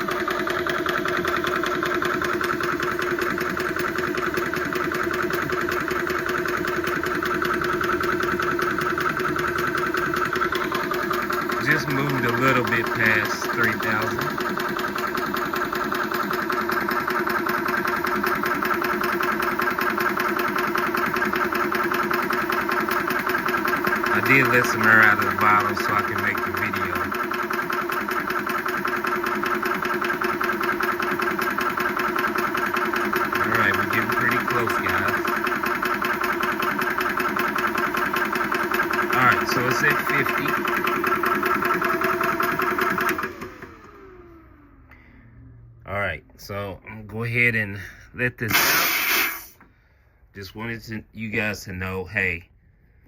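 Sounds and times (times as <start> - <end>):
air compressor pulsing: 0.0 - 45.8, 48.5 - 49.7.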